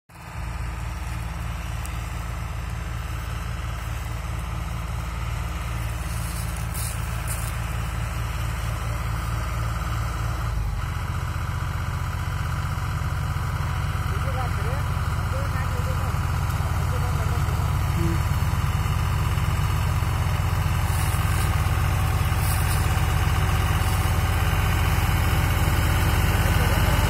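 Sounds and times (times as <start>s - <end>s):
tractor diesel engine running: 0.1s - 27.0s.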